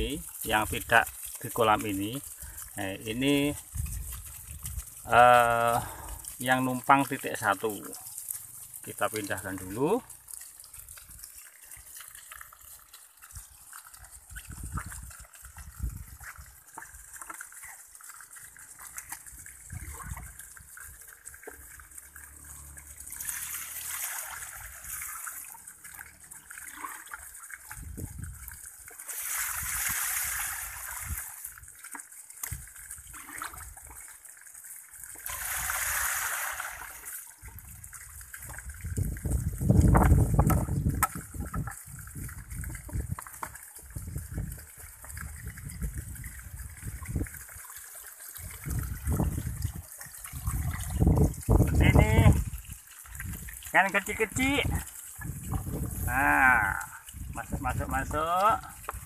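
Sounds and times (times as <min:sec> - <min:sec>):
water gushing into plastic basin: 0:00.0 - 0:59.0
water splashing and trickling: 0:00.0 - 0:59.0.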